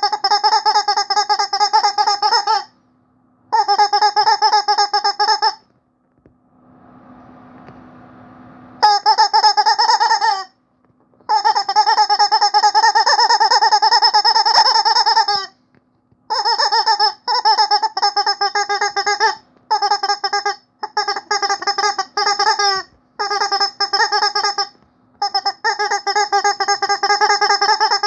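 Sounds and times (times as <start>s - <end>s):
rubber chicken toy squawking: 0.0s - 2.7s, 3.5s - 5.6s, 8.8s - 10.5s, 11.3s - 15.6s, 16.3s - 28.0s.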